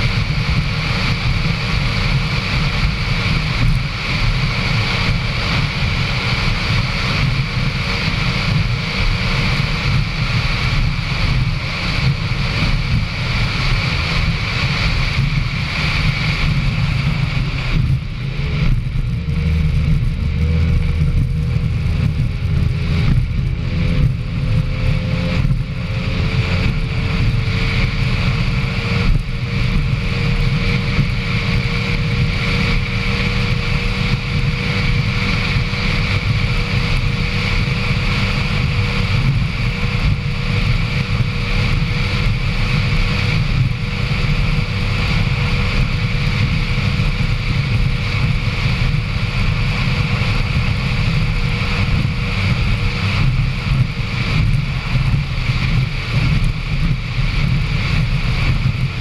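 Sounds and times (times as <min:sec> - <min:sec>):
powerboat engine running: 0:00.0 - 0:59.0.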